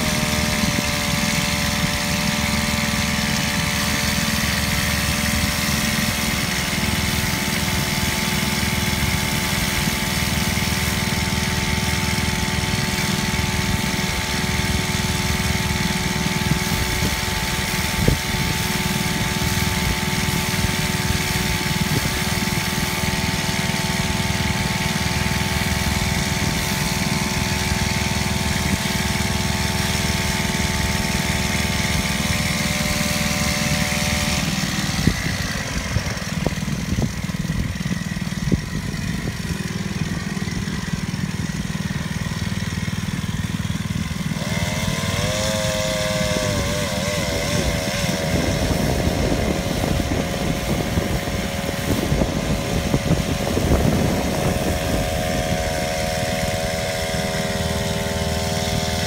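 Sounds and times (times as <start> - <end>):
small engine water pump running: 0.0 - 59.0.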